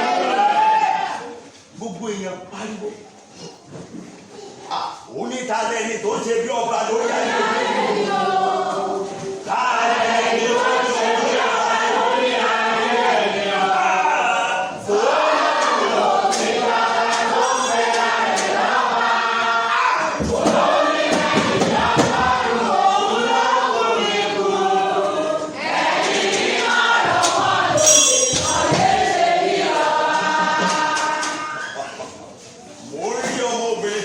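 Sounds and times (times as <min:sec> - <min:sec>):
congregation singing: 0:00.0 - 0:03.0, 0:04.8 - 0:34.0.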